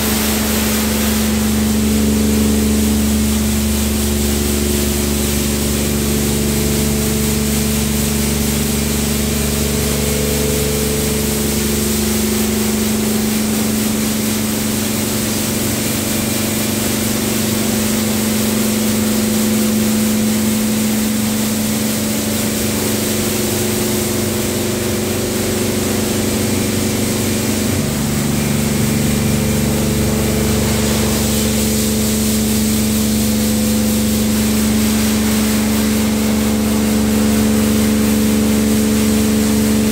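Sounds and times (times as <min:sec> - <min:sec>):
pump hum: 0:00.0 - 0:39.9.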